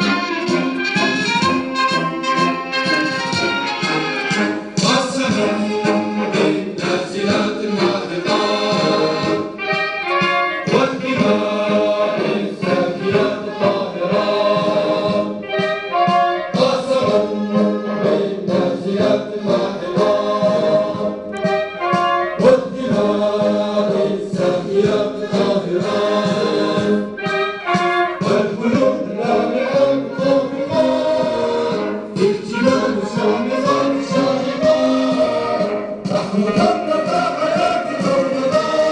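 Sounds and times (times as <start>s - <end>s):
brass and orchestral accompaniment: 0.0s - 38.9s
choir singing: 2.9s - 38.9s.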